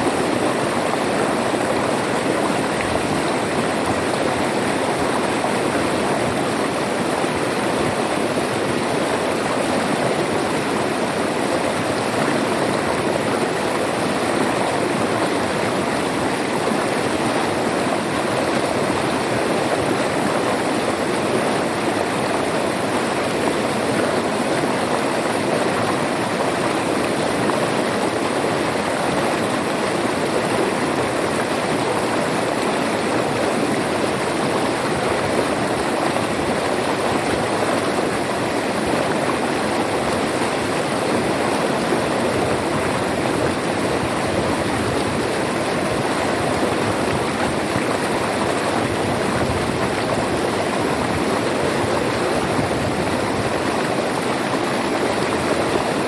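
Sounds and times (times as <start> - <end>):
river water flowing over rocks: 0.0 - 56.0.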